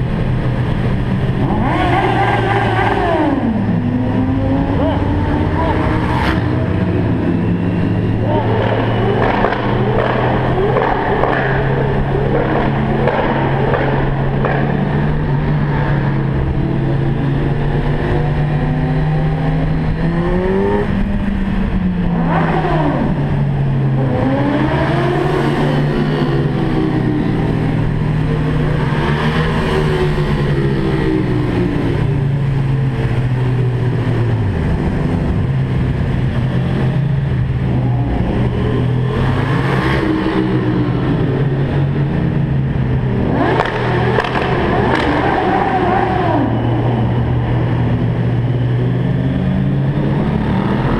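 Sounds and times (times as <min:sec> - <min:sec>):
car engine echoing in tunnel: 0:00.0 - 0:50.9.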